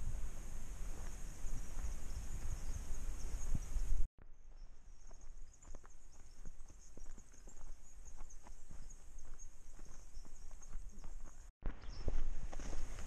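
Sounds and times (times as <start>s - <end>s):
footsteps on a dirt trail: 0.0s - 3.2s, 4.2s - 13.0s
insects chorus: 0.0s - 4.0s, 5.0s - 11.5s.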